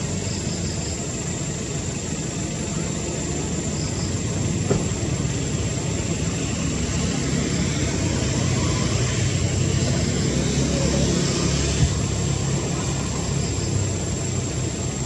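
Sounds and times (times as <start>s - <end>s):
faint high whine: 0.0s - 15.0s
low engine-like rumble: 0.0s - 15.0s.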